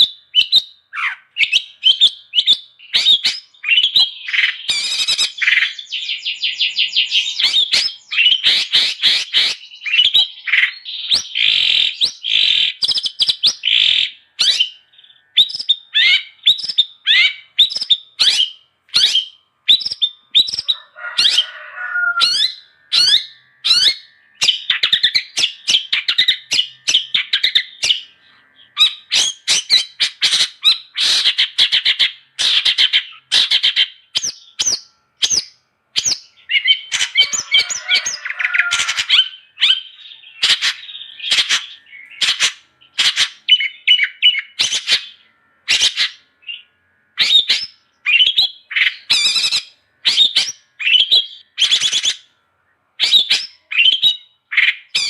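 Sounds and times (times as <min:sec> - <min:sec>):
bird singing chirps and squawks: 0:00.0 - 0:52.3, 0:53.0 - 0:55.0.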